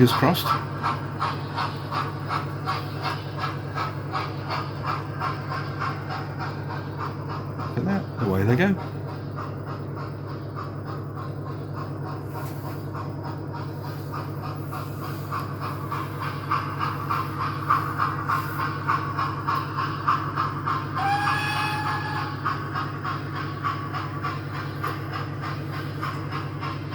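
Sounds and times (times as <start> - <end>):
fast regular ticking of train: 0.0 - 26.9
model train motor hum: 0.0 - 26.9.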